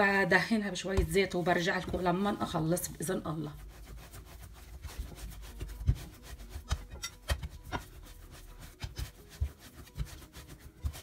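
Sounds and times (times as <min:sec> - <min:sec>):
hands kneading dough in bowl: 0:00.0 - 0:11.0.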